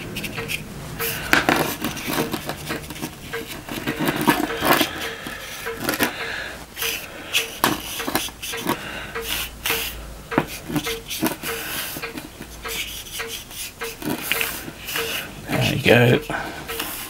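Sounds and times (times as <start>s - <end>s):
soft even ticking: 0.0s - 17.0s.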